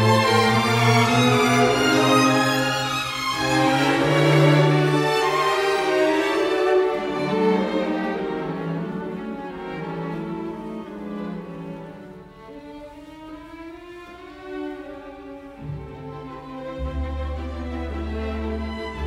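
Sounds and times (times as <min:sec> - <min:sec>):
slow bowed-string music: 0:00.0 - 0:19.0.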